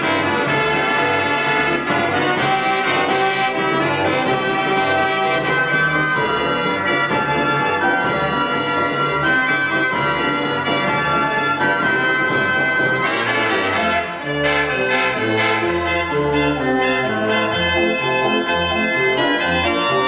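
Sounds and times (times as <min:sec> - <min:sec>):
mechanical organ music: 0:00.0 - 0:20.0.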